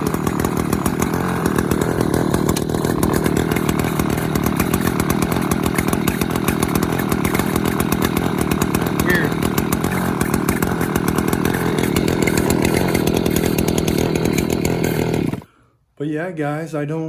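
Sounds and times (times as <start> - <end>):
chainsaw engine idling: 0.0 - 15.6.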